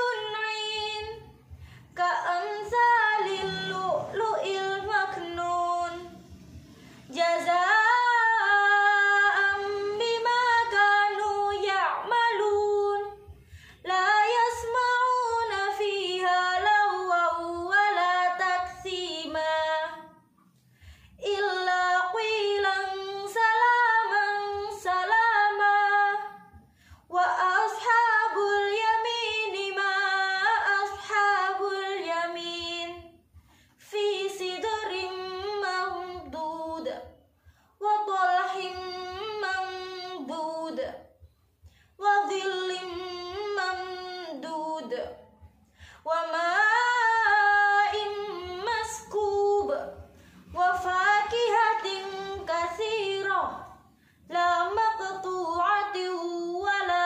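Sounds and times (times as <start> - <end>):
woman chanting recitation: 0.0 - 20.2, 21.2 - 33.2, 33.8 - 37.2, 37.8 - 41.1, 42.0 - 45.4, 46.0 - 57.0.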